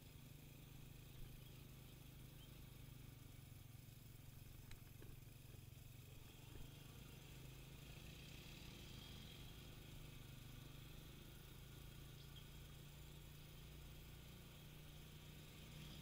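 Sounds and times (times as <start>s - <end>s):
faint low vehicle hum: 0.0s - 16.0s.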